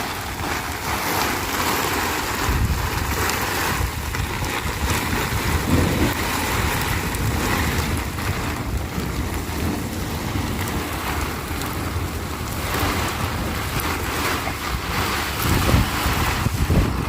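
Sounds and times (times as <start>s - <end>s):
strong gusty wind buffeting microphone: 0.0s - 17.0s.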